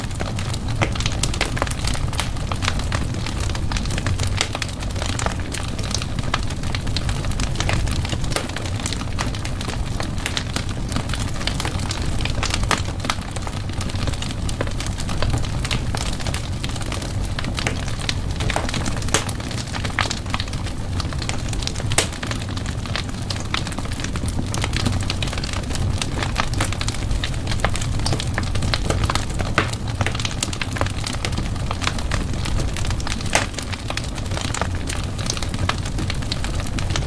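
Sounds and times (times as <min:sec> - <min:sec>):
fire low rumble: 0:00.0 - 0:37.0
wood fire crackling and popping: 0:00.0 - 0:37.0.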